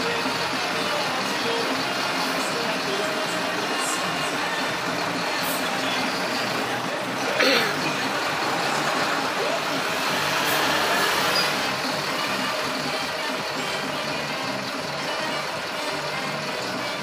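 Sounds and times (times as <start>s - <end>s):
city traffic engine noise: 0.0s - 17.0s.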